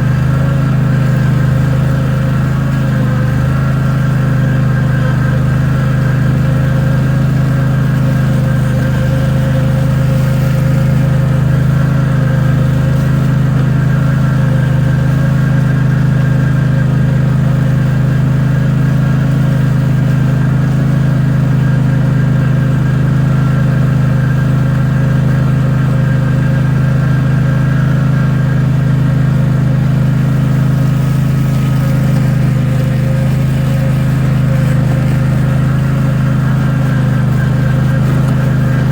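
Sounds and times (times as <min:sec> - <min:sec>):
small vehicle engine running: 0:00.0 - 0:38.9.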